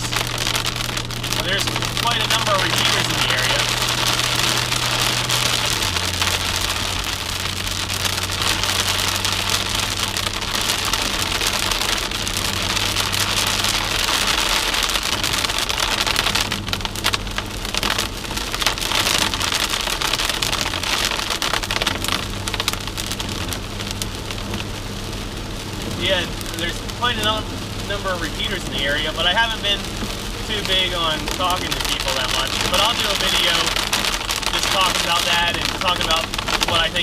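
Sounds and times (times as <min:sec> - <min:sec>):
car engine humming: 0:00.0 - 0:37.0
rain hissing on a car: 0:00.0 - 0:37.0
tyres on wet road: 0:00.0 - 0:37.0.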